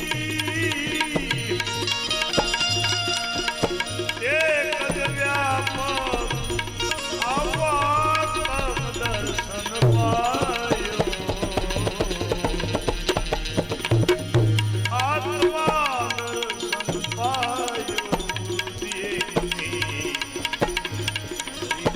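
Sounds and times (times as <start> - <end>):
sliding melody line: 0.0 - 21.9
tabla rhythm: 0.0 - 21.9.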